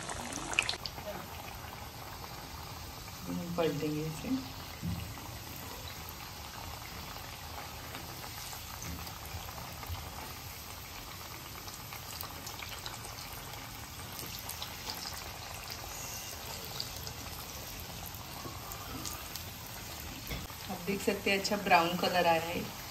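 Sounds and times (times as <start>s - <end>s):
rolls deep-frying in hot oil: 0.0s - 22.9s.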